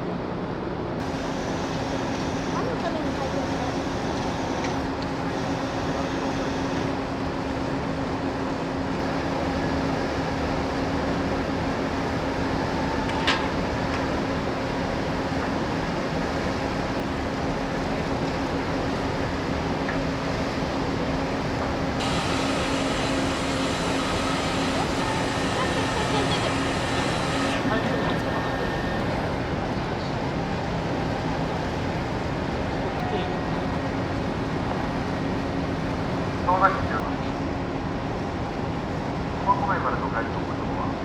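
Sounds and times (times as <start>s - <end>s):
ferry machinery hum: 1.0s - 37.3s.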